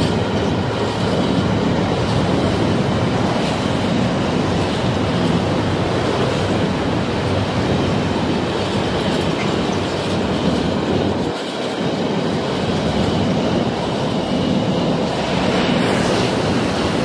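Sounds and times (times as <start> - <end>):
high-speed train rushing past: 0.0 - 17.0.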